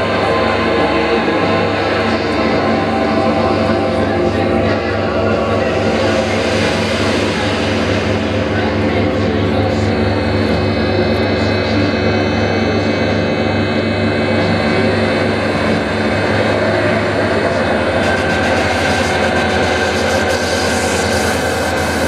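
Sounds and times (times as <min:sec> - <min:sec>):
loud electronic drone: 0:00.0 - 0:22.0.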